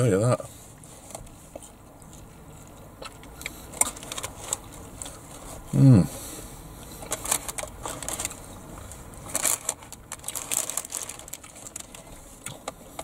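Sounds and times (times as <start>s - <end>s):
chewing crispy fried food: 0.8s - 5.8s, 6.8s - 13.0s.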